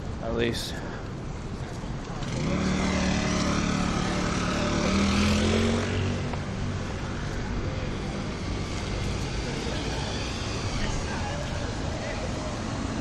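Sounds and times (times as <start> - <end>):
street noise: 0.0 - 13.0
passing vehicle engine hum: 2.1 - 13.0.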